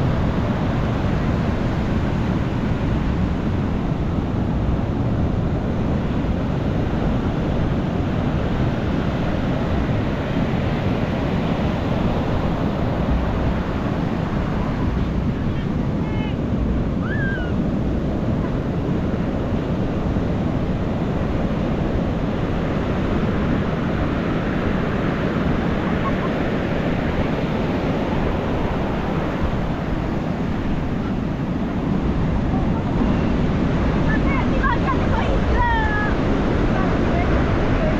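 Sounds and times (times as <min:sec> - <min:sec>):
ocean waves breaking on beach: 0:00.0 - 0:37.9.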